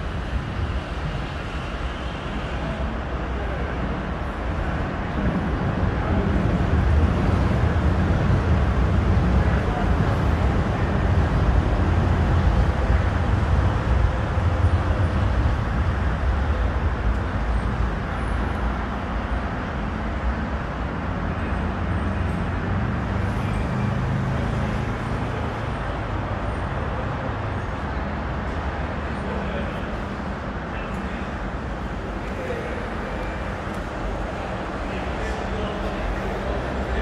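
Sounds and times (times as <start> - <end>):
road traffic noise: 0.0 - 37.0
train running past: 0.0 - 37.0.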